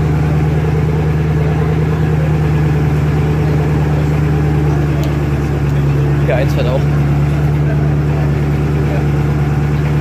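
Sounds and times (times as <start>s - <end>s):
car engine idling loudly: 0.0s - 10.0s.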